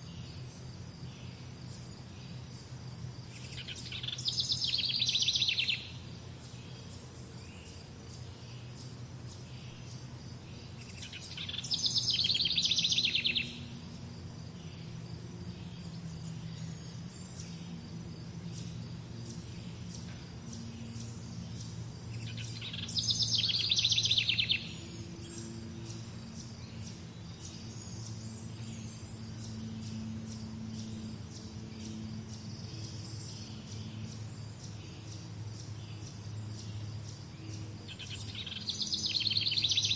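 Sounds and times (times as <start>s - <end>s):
bird singing trilled phrases: 0.0s - 17.8s, 18.5s - 39.9s
birds chirping faintly: 0.0s - 39.9s
steady low hum: 0.0s - 39.9s.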